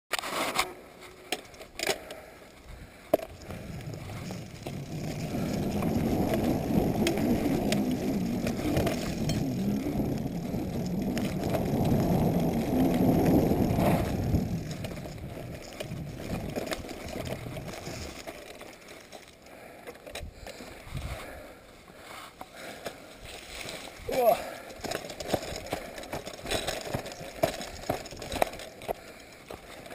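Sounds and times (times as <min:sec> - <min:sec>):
bike rattling: 0:00.1 - 0:29.9
bike tyres rumbling on dirt trail: 0:02.1 - 0:29.9.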